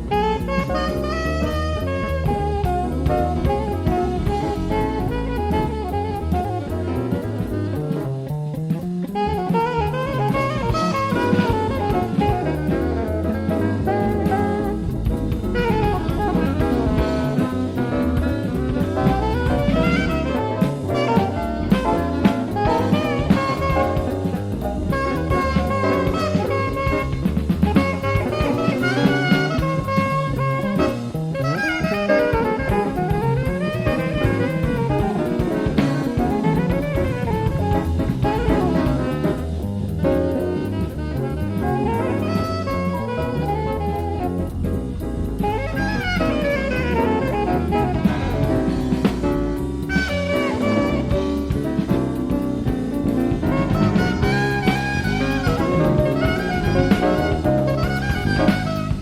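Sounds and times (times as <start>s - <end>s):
drum kit: 0.0s - 59.0s
electric bass: 0.0s - 59.0s
keyboards: 0.0s - 59.0s
saxophone line: 0.0s - 59.0s.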